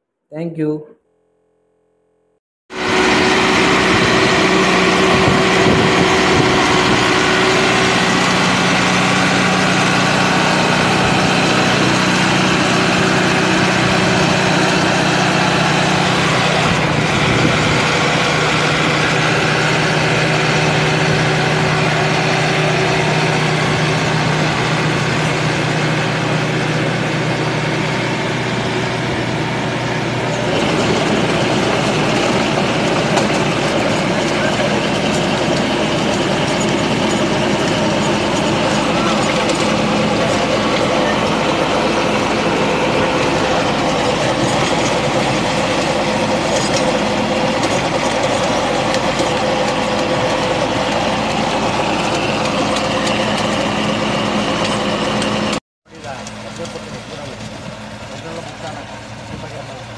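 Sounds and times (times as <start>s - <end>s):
rotary tiller working soil: 2.7s - 59.9s
tractor diesel engine under load: 2.7s - 59.9s.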